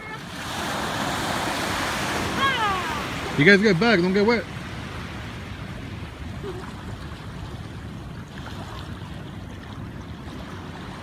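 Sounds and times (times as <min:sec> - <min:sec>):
small waves washing on beach: 0:00.0 - 0:11.0
wind rumble on microphone: 0:00.0 - 0:11.0.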